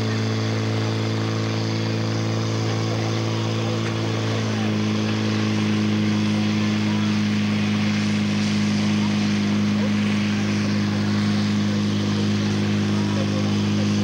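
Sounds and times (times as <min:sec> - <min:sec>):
fire pump engine droning: 0:00.0 - 0:14.0
hiss of spraying water: 0:00.0 - 0:14.0.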